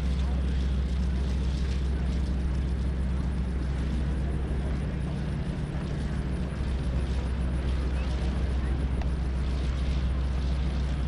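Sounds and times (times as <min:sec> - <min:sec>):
radial engine running steadily: 0:00.0 - 0:11.0.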